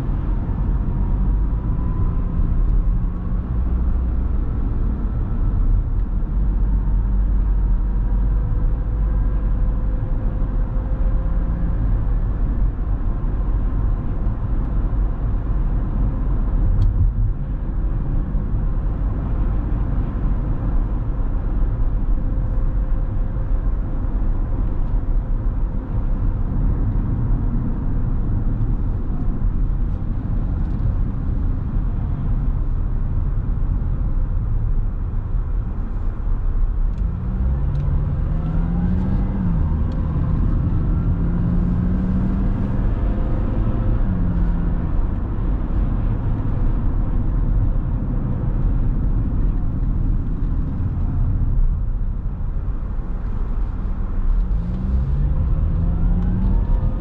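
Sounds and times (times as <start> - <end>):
tyres and engine rumble: 0.0 - 57.0.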